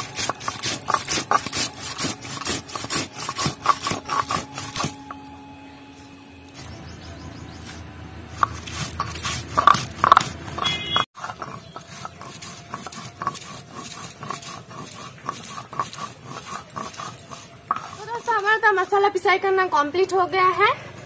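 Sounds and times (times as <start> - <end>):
stone muller scraping on grinding slab: 0.0 - 5.3, 7.4 - 19.6.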